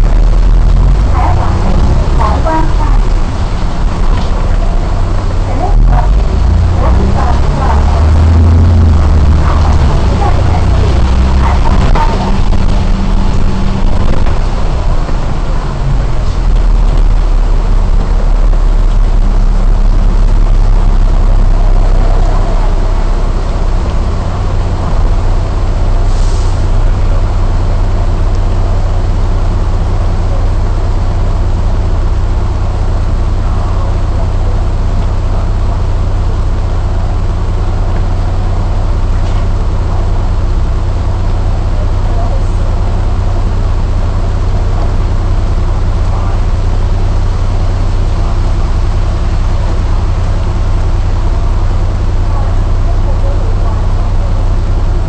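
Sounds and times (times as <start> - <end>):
diesel bus engine idling: 0.0 - 55.0
heavy rain and wet road hiss: 0.0 - 55.0.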